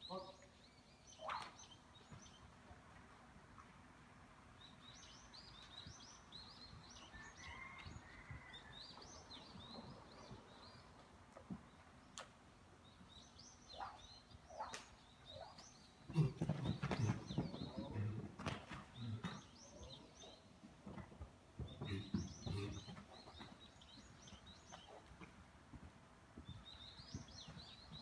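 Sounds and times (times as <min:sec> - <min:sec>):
small birds chirping: 0:00.0 - 0:02.7, 0:04.6 - 0:28.0.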